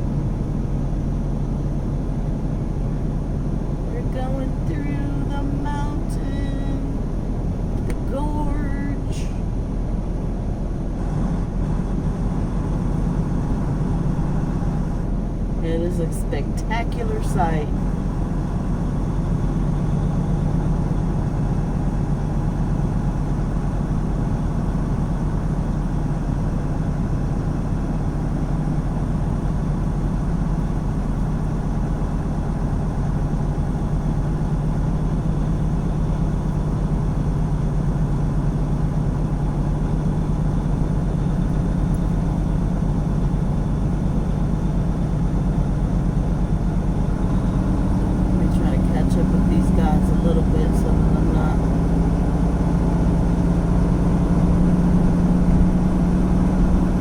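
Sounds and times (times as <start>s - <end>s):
road noise: 0.0s - 57.0s
truck diesel engine droning: 0.0s - 57.0s.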